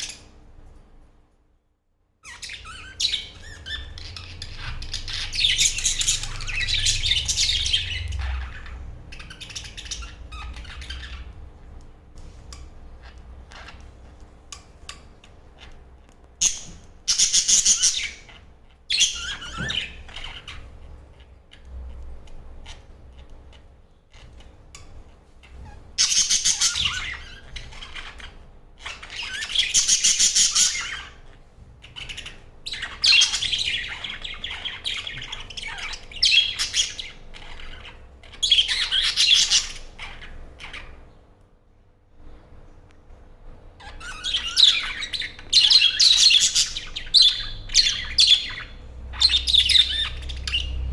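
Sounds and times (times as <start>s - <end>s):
budgerigars chirping and chattering: 0.0s - 0.3s, 2.2s - 15.8s, 16.4s - 41.1s, 43.8s - 50.9s.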